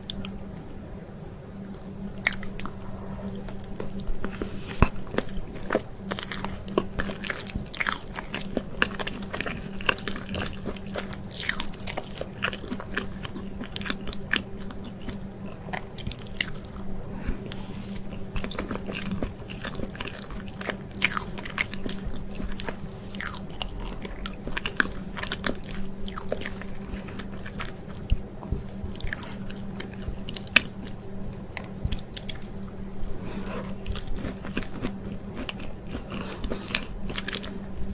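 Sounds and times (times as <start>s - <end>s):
biting and chewing cake: 1.6s - 37.9s.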